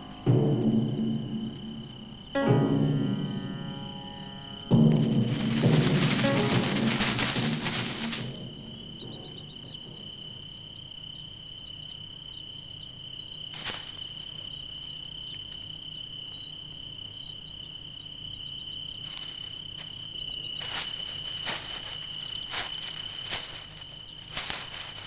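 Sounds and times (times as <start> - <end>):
high-pitched insect trill: 0.0 - 25.0.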